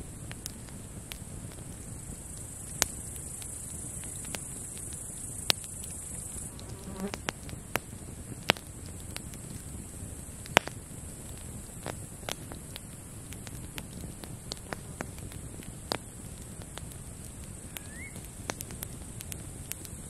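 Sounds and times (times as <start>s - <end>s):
campfire crackling: 0.0s - 20.0s
campfire popping: 0.0s - 20.0s
grasshoppers buzzing: 0.3s - 10.8s, 11.5s - 20.0s.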